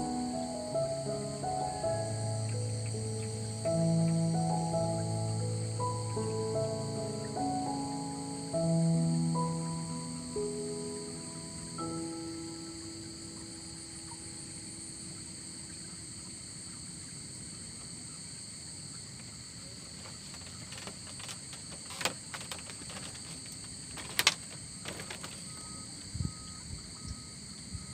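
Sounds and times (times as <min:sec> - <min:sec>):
night insects chirring: 0:00.0 - 0:27.9.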